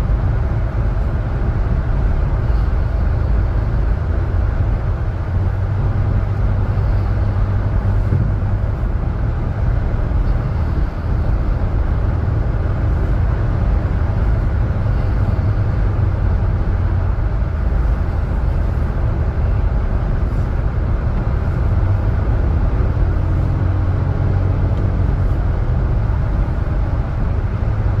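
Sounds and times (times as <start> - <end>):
car engine rumble: 0.0 - 28.0
road noise: 0.0 - 28.0.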